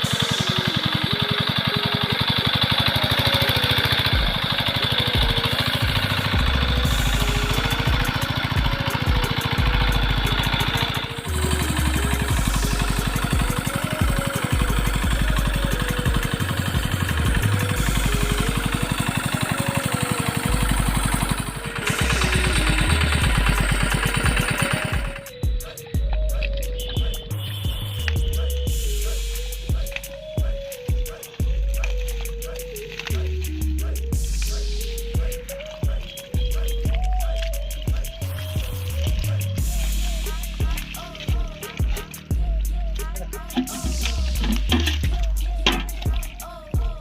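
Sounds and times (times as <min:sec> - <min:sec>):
background music: 0:00.0 - 0:47.0
water pump engine running: 0:00.0 - 0:47.0.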